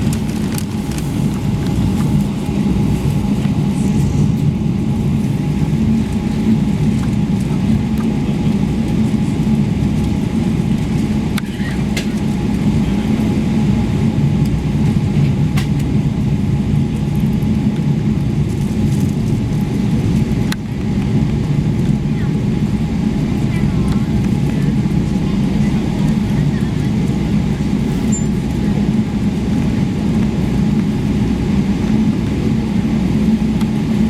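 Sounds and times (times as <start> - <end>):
low cabin rumble: 0.0 - 34.0.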